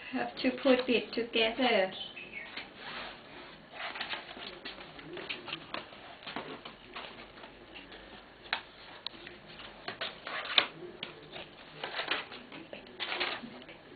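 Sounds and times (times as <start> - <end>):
rustling: 2.3 - 13.9.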